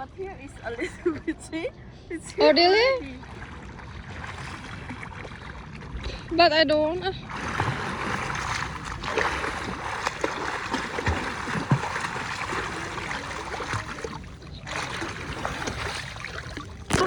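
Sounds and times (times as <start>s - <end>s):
sea water sloshing and splashing: 3.0s - 17.0s.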